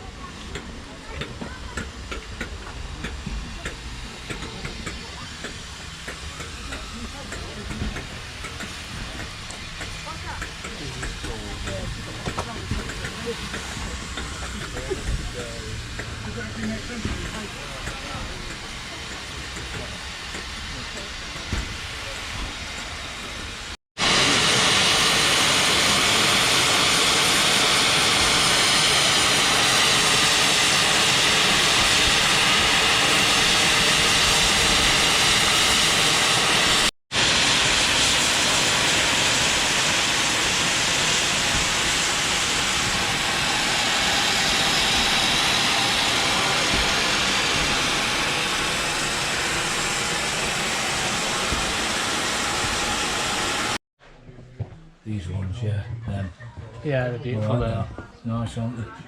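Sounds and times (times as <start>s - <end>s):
steam train rushing on rails: 0.0s - 53.8s.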